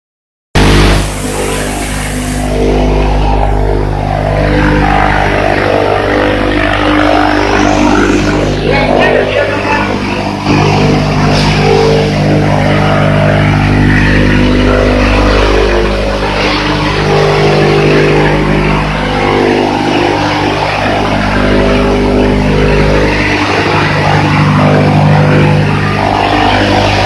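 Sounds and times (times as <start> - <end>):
chopper machine running: 0.6 - 27.0.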